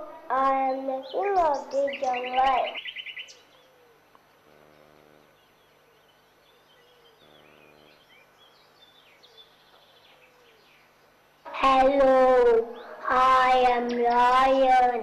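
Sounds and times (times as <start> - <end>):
faint hums: 0.0 - 15.0
faint bird chirps: 0.6 - 11.6, 12.4 - 14.7.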